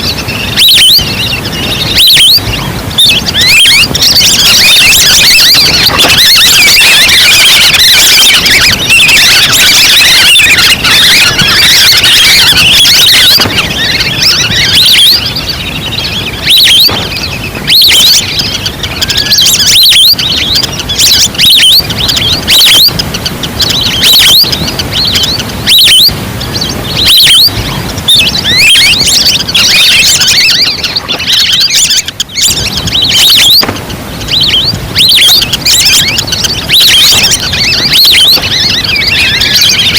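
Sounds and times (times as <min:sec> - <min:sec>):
recorded duck calls: 0:00.0 - 0:39.9.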